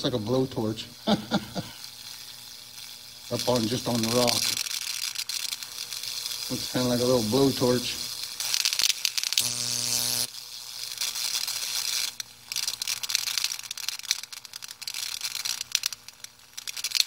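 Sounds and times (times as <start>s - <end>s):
electric arc crackling and hissing: 0.0s - 17.0s
loud steady electrical buzz: 0.0s - 17.0s.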